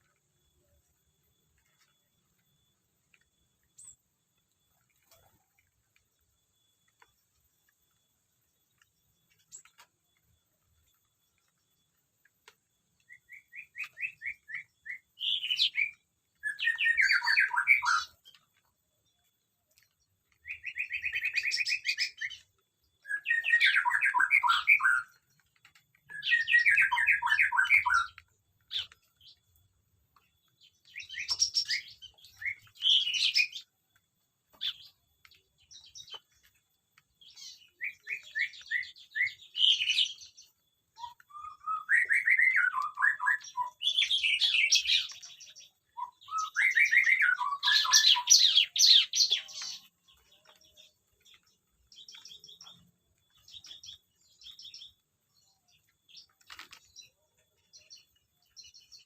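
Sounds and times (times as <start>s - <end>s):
small birds singing and twittering: 0.0s - 59.0s.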